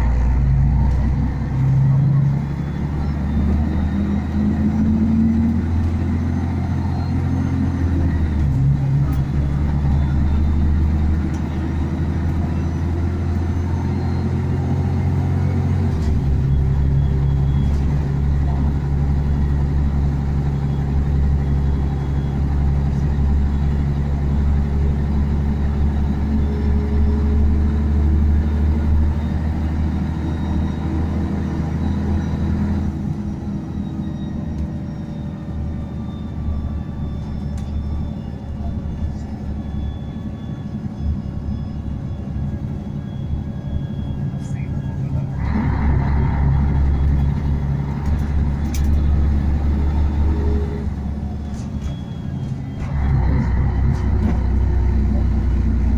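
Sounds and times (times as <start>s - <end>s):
bus diesel engine droning: 0.0s - 55.9s
road rumble: 0.0s - 55.9s.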